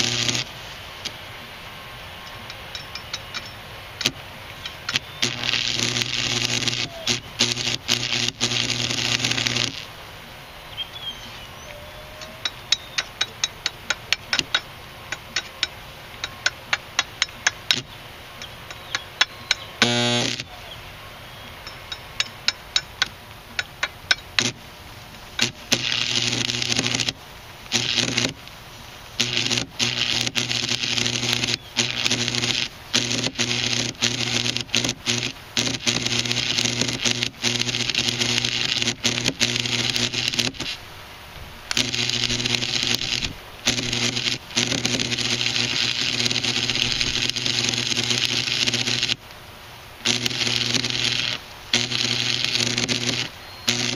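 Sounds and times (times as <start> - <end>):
electrode ticking against steel: 0.0 - 1.2, 2.2 - 9.9, 12.3 - 20.5, 21.6 - 24.6, 25.3 - 28.6, 29.2 - 40.8, 41.7 - 49.2, 50.0 - 53.9
welding arc crackling buzz: 0.0 - 10.7, 11.4 - 20.7, 21.5 - 53.9
welder hum: 0.0 - 53.9.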